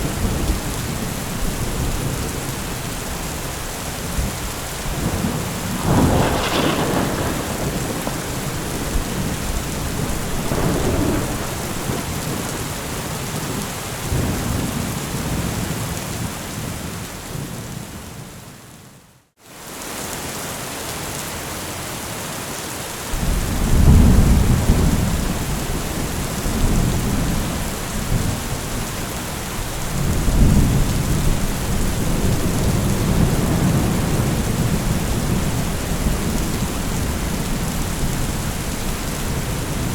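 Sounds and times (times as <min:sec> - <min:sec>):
rolling thunder: 0:00.0 - 0:15.7, 0:23.2 - 0:39.9
steady rain: 0:00.0 - 0:39.9.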